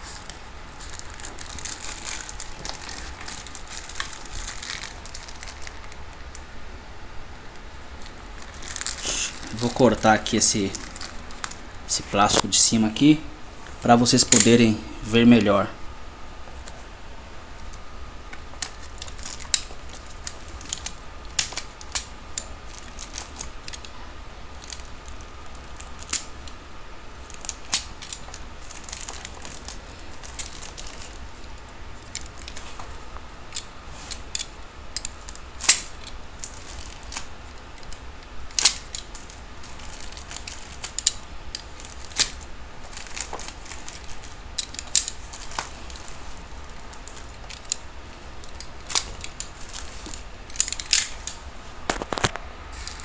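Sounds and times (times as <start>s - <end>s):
plastic film crackling: 0.0s - 6.5s, 7.4s - 12.8s, 17.6s - 53.0s
low steady hum: 0.0s - 53.0s.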